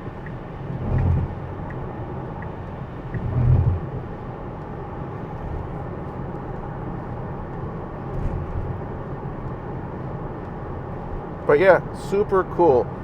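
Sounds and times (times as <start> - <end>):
turn signal ticking: 0.0 - 13.0
tyres on wet road: 0.0 - 13.0.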